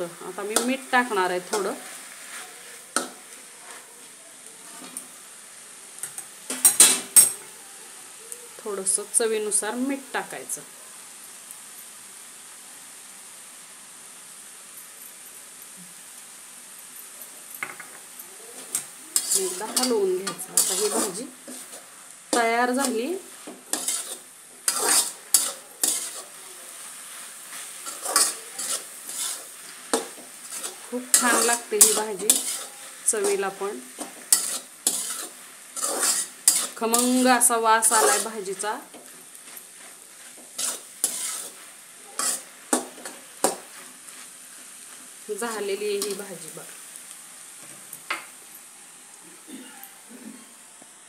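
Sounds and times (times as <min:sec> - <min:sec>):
greens sizzling in a pan: 0:00.0 - 0:51.0.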